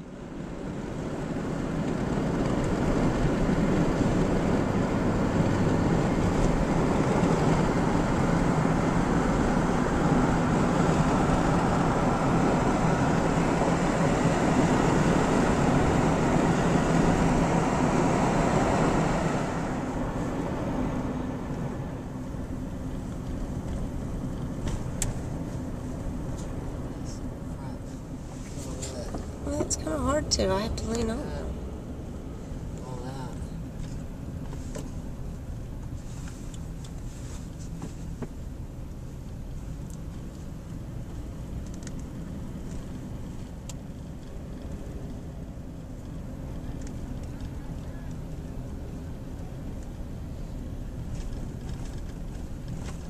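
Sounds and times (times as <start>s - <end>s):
car road and wind noise: 0.0s - 53.0s.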